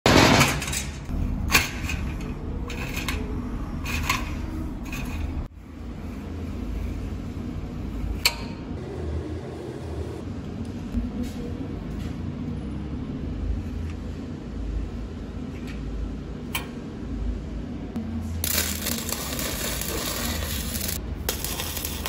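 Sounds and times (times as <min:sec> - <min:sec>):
steady low hum: 0:01.0 - 0:21.6.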